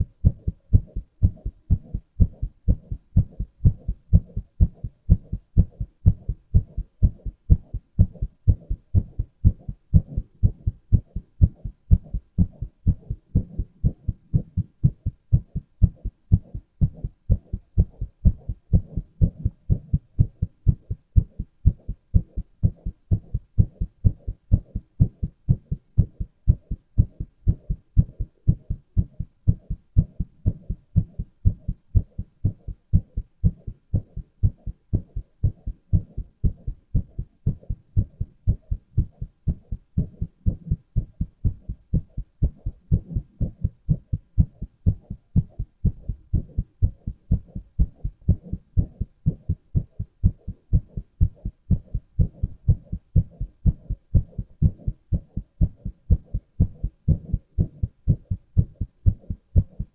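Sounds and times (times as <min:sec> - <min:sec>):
heart beating: 0:00.0 - 0:59.9.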